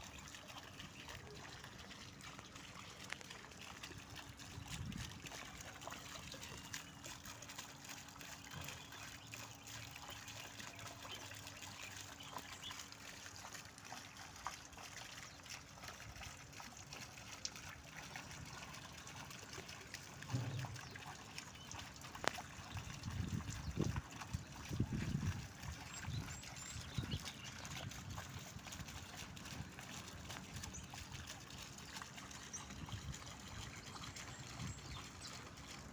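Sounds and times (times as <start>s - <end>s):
water trickling: 0.0s - 35.9s.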